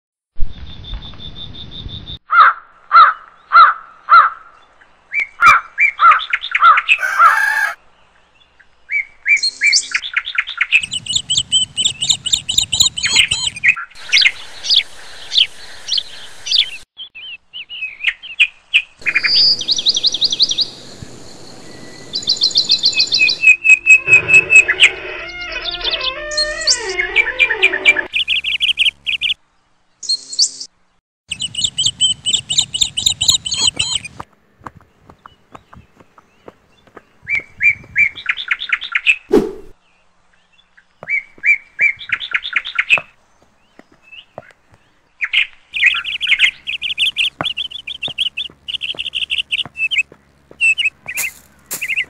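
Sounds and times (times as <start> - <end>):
birds chirping and trilling: 0.5 - 52.0.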